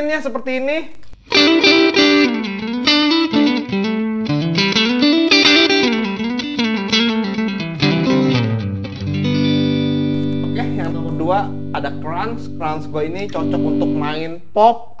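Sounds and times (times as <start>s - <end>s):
electric guitar melody: 1.2s - 14.4s.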